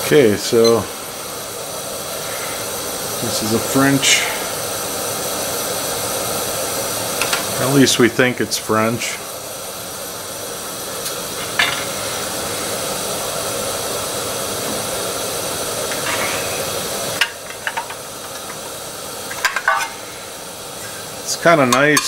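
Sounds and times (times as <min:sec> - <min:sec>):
gas stove burner hissing: 0:00.0 - 0:22.0.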